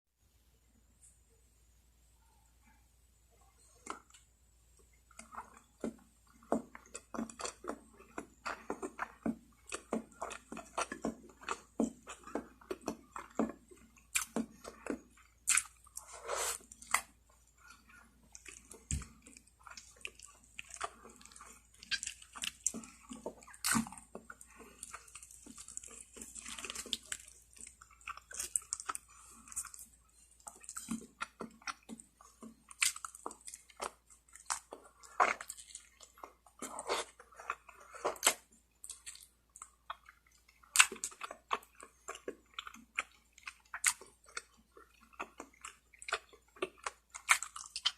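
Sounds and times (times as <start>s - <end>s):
chewing and biting food: 3.4s - 47.9s.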